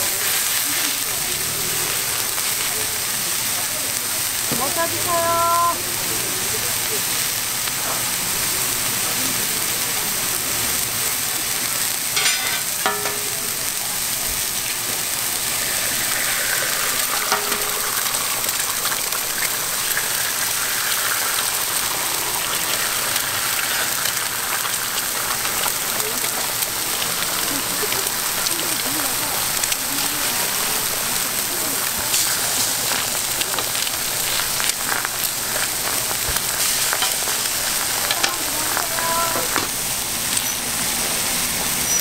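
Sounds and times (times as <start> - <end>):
meat and eggs sizzling on griddle: 0.0 - 42.0.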